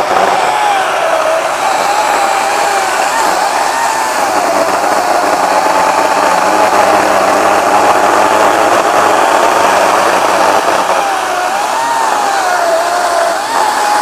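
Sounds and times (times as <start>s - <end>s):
electric chainsaw whining: 0.0s - 14.0s.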